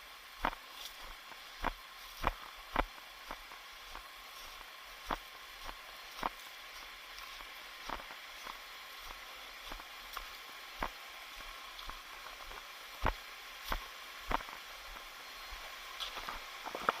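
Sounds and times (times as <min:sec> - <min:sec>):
footsteps: 0:00.0 - 0:15.1, 0:16.0 - 0:17.0
steady hiss: 0:00.0 - 0:17.0.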